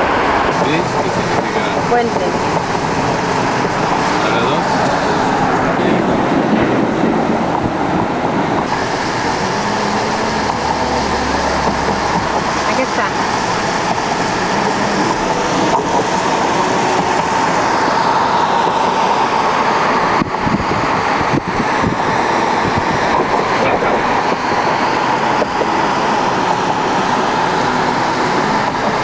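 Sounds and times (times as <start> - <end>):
road and wind noise in car: 0.0 - 29.0.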